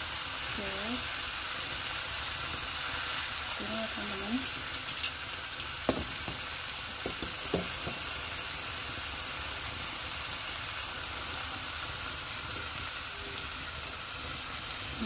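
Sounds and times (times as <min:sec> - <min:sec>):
fish sizzling in a hot pan: 0:00.0 - 0:15.0
small pops of frying: 0:00.5 - 0:15.0.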